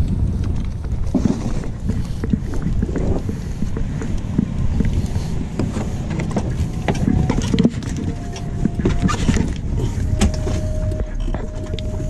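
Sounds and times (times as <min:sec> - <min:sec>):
faint steady whine: 0:00.0 - 0:12.0
wind rumbling on microphone: 0:00.0 - 0:12.0.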